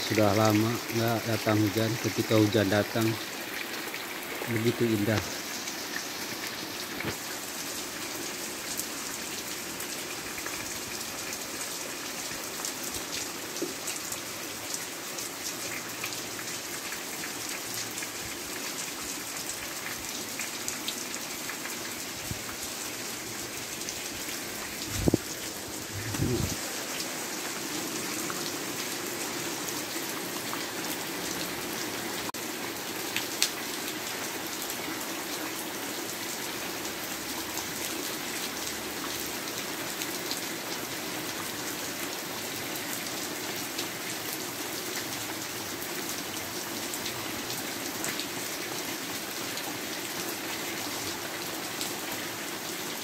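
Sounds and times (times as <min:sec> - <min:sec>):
water running off eaves: 0:00.0 - 0:52.8
rain on tile and metal roofs: 0:00.0 - 0:53.0.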